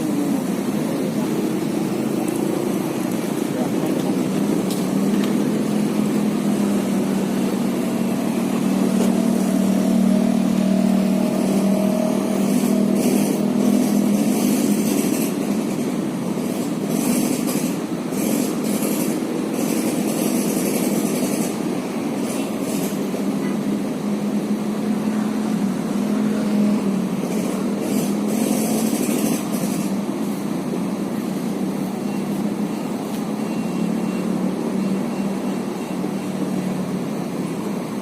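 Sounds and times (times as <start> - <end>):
engine drone: 0.0 - 38.0.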